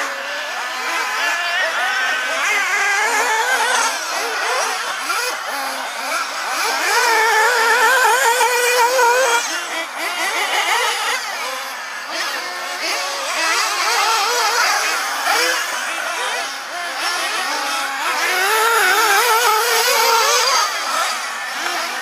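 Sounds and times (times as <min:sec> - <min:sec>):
small engines buzzing high: 0:00.0 - 0:22.0.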